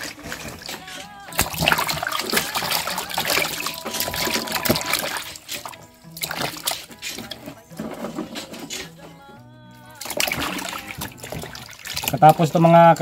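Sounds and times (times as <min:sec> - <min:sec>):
water splashing in a basin: 0:00.0 - 0:09.0, 0:09.8 - 0:13.0
background music: 0:00.0 - 0:13.0.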